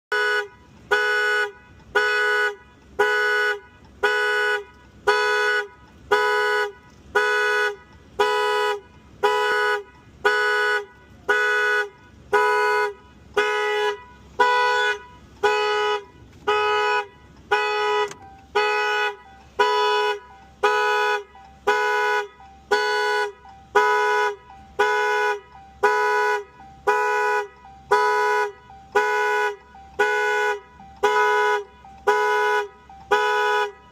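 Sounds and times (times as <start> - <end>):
car alarm horn blaring: 0.1 - 33.9.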